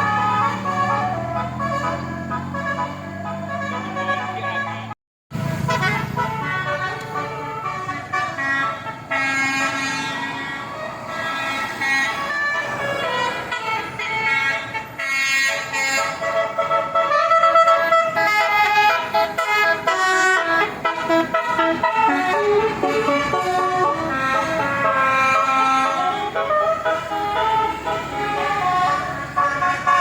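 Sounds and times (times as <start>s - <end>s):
multi-tone horn playing melody: 0.0s - 30.0s
traffic noise: 0.0s - 30.0s.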